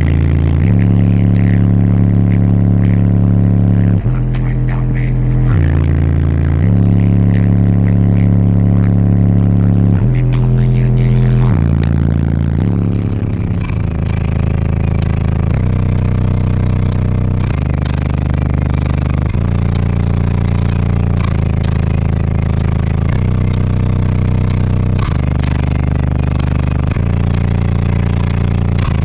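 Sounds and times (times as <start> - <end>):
bass-heavy music through subwoofer: 0.0 - 29.0.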